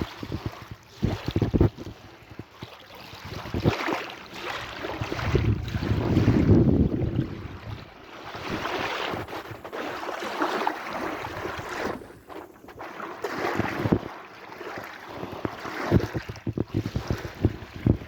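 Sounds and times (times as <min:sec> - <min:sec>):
wind buffeting microphone: 0:00.0 - 0:02.6, 0:03.2 - 0:09.8, 0:11.0 - 0:14.2, 0:15.2 - 0:18.0
sea waves washing in: 0:03.4 - 0:18.0.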